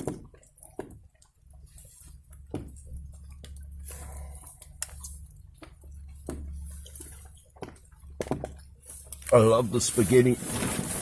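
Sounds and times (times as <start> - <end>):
person chewing food: 0.0 - 9.2
low steady rumble: 0.0 - 11.0.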